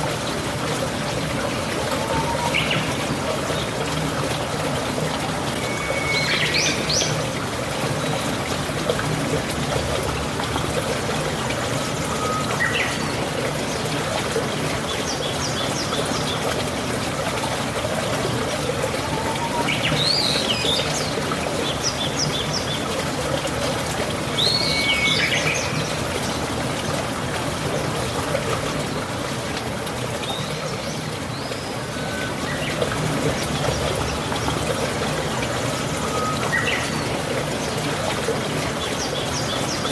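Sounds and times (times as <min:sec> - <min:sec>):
steady rain: 0:00.0 - 0:39.9
water trickling: 0:00.0 - 0:39.9.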